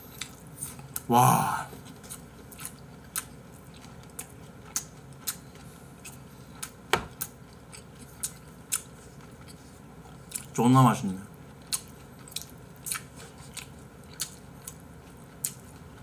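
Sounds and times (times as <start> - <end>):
wet chewing clicks and smacks: 2.1 - 10.6, 11.5 - 16.0.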